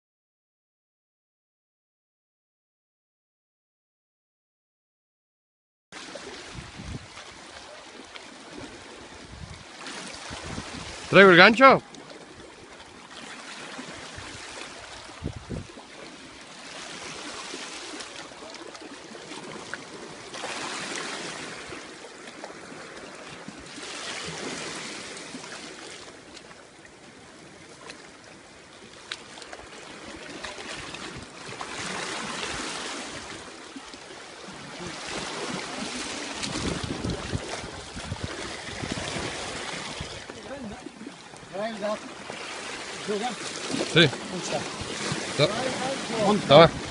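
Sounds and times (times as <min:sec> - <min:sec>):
waves washing against rocks: 0:06.0 - 0:26.4, 0:28.1 - 0:46.9.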